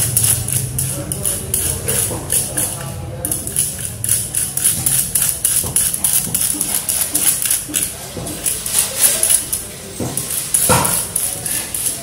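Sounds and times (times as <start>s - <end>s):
knife scraping fish scales: 0.0s - 12.0s.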